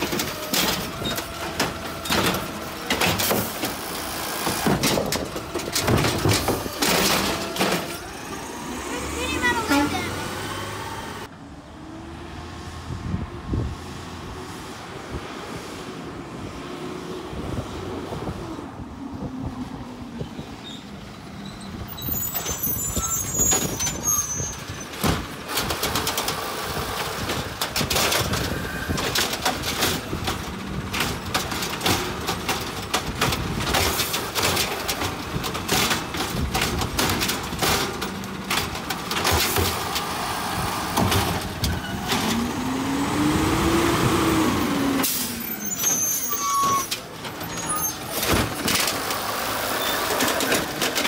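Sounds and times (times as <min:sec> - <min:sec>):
cart clattering and banging: 0:00.0 - 0:11.2, 0:20.3 - 0:51.0
diesel engine under load: 0:00.0 - 0:51.0.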